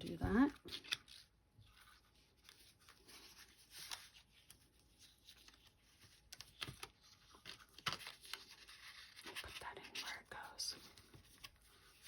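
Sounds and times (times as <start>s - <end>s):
ribbon and cardstock rustling: 0.0s - 10.0s.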